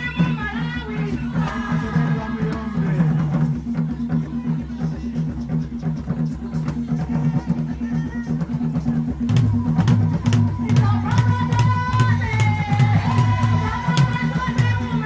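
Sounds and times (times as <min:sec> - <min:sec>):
drums in fast rhythm: 0:00.0 - 0:15.0.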